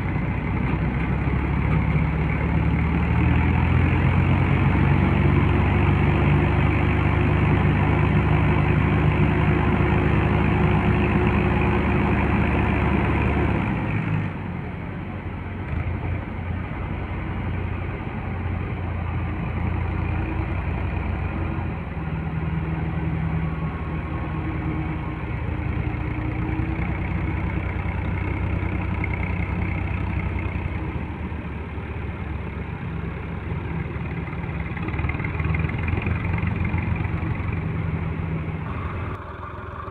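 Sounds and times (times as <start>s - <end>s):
tractor diesel engines under load: 0.0s - 39.9s.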